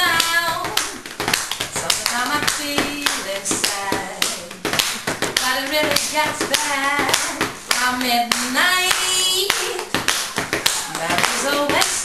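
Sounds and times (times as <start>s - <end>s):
hand claps: 0.0s - 12.0s
hands slapping legs: 0.0s - 12.0s.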